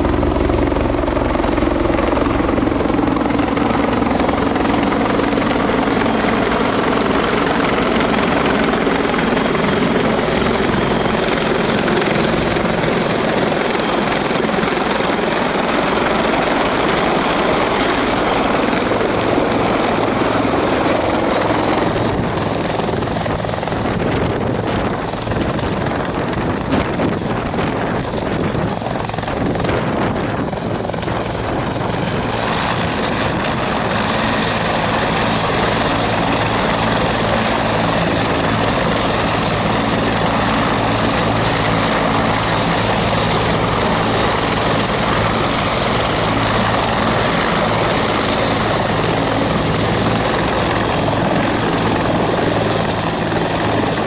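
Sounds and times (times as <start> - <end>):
helicopter rotor running: 0.0 - 54.0
high turbine whine: 0.0 - 54.0.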